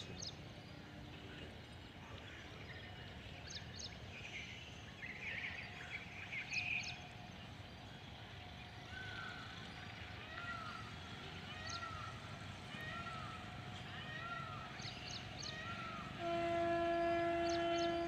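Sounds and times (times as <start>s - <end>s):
birds chirping and chattering: 0.0s - 16.2s.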